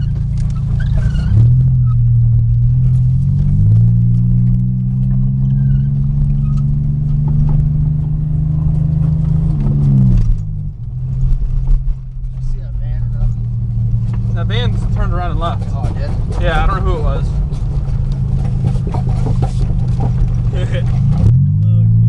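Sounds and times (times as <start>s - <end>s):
knocks and rattles: 0.0s - 21.4s
car engine pulling hard: 0.0s - 22.0s.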